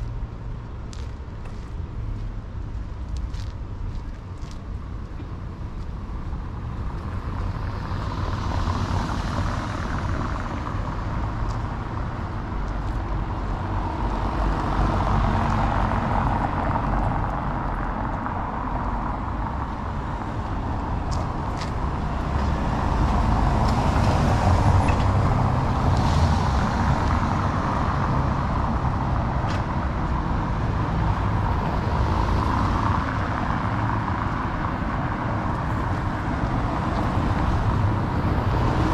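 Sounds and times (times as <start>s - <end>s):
cars driving past: 4.4s - 38.9s.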